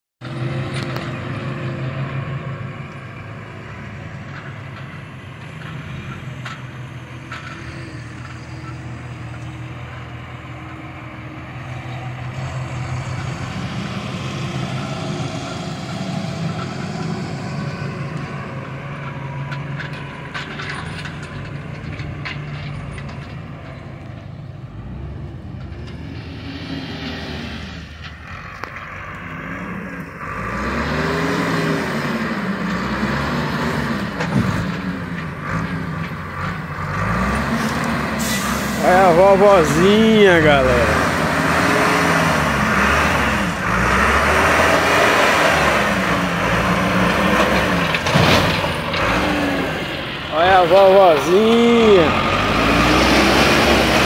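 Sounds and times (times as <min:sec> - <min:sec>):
heavy diesel engine running: 0:00.3 - 0:54.0.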